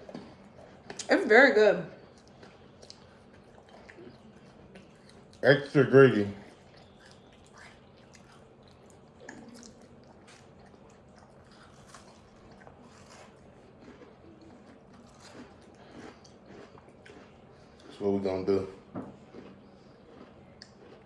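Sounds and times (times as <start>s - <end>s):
chewing and biting cookie: 0.0s - 1.1s, 1.9s - 21.0s.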